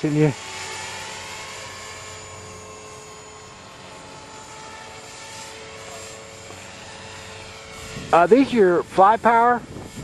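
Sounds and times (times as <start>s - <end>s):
rc helicopter motor whine: 0.0s - 10.0s.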